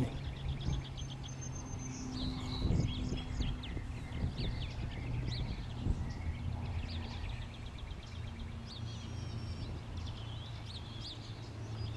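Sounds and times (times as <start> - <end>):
small birds chirping and singing: 0.0 - 11.9.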